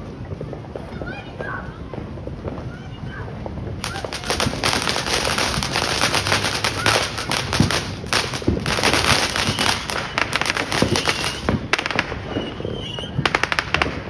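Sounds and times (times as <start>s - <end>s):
fireworks crackling pops: 0.0s - 14.0s
loud firework cracks: 1.9s - 14.0s.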